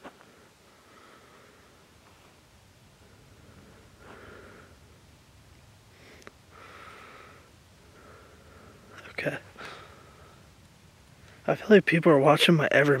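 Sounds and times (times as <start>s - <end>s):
soft breathing: 0.0s - 5.1s, 5.8s - 11.5s.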